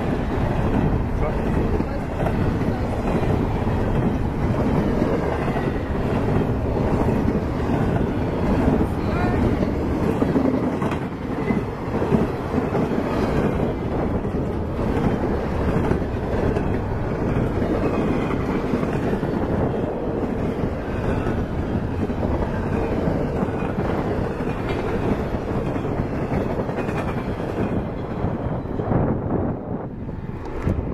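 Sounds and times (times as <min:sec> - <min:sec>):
train wheels rolling on rails: 0:00.0 - 0:30.9.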